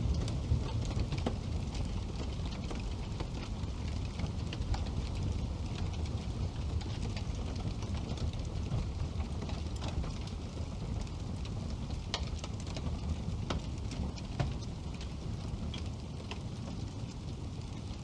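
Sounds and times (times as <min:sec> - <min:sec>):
fire crackling and popping: 0:00.0 - 0:18.0
low rush of flame: 0:00.0 - 0:18.0.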